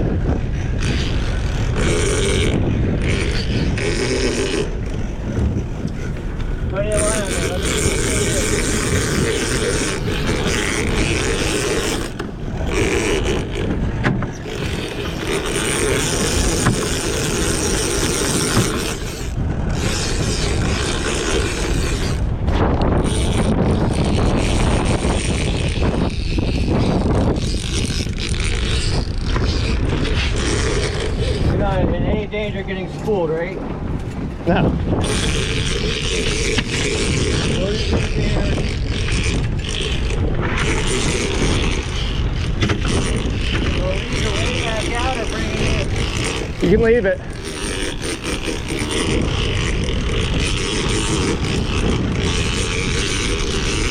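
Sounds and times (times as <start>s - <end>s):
boat motor running slowly: 0.0s - 53.9s
water noise: 0.0s - 53.9s
wind: 0.0s - 53.9s.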